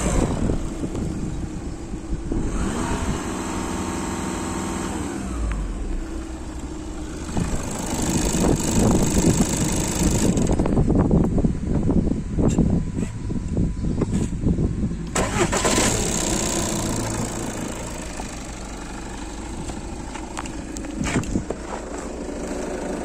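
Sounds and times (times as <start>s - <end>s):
diesel engine running: 0.0s - 11.9s, 14.5s - 23.0s.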